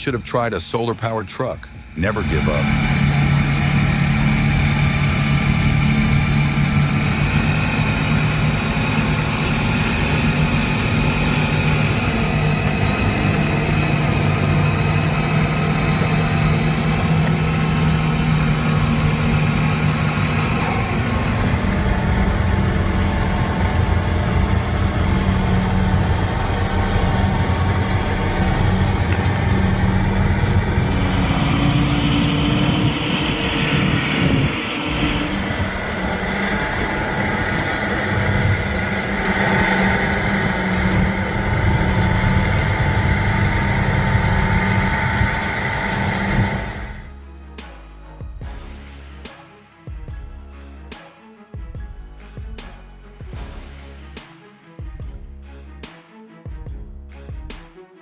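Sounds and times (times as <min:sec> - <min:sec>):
diesel truck engine running: 0:00.0 - 0:47.2.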